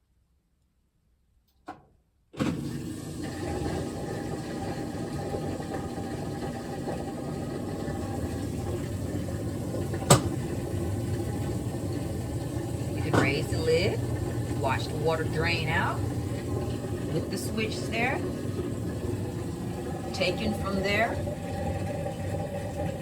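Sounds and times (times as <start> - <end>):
washer drain pump running: 2.4 - 23.0
water rushing out: 2.5 - 23.0.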